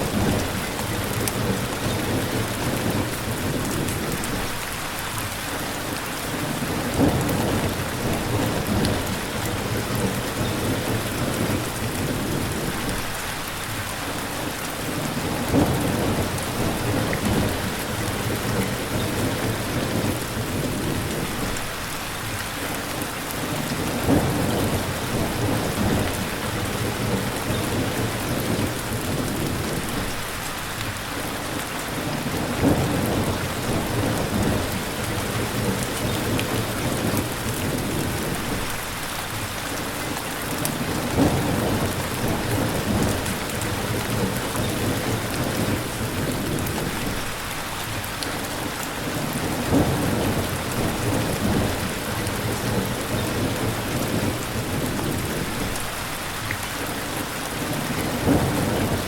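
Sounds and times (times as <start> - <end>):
low thunder rumbles: 0.0 - 4.6, 6.5 - 13.1, 14.9 - 21.8, 23.6 - 30.3, 32.0 - 39.4, 40.6 - 47.4, 49.0 - 56.0, 57.6 - 59.0
rain falling: 0.0 - 59.0.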